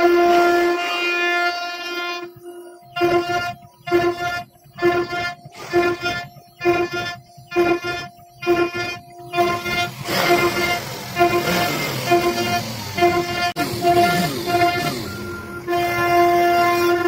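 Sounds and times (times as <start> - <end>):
short repeated tone pulses: 0.0 - 17.0.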